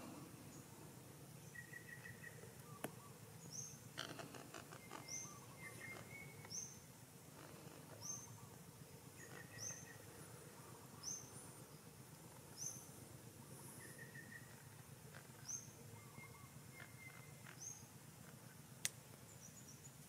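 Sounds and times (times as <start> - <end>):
faint bird chirps: 1.4 - 18.0.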